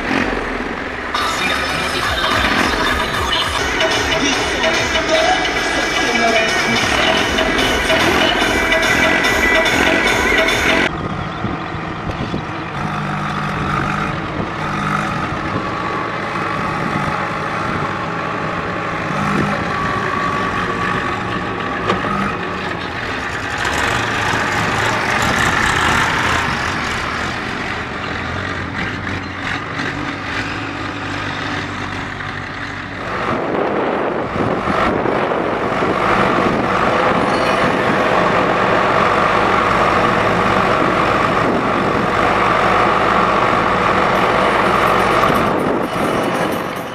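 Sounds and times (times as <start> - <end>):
backhoe loader engine running: 0.0 - 46.9
loud dense engine sound: 0.0 - 46.9
tractor diesel engine running: 0.0 - 46.9.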